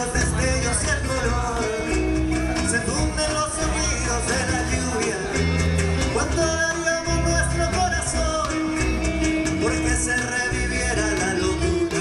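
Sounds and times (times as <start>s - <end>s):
live folk band playing: 0.0s - 12.0s
strong bass line: 0.0s - 12.0s.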